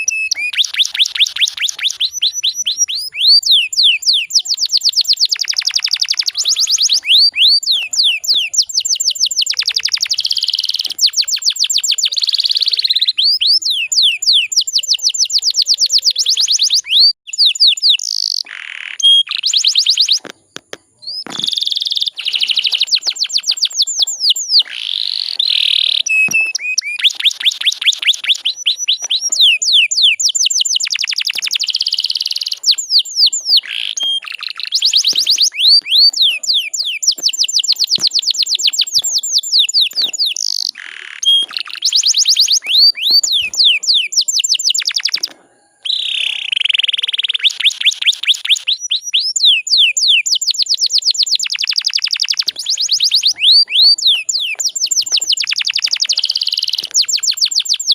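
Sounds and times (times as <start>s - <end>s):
canary singing in trills: 0.0s - 57.9s.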